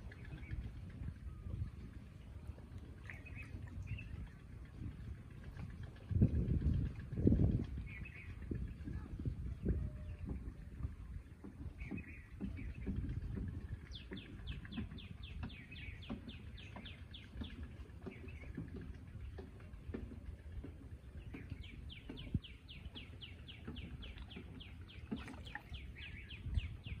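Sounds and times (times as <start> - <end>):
bird singing: 0.0 - 4.6, 7.6 - 10.4, 11.2 - 19.4, 21.0 - 27.0
water sloshing around person wading: 0.0 - 27.0.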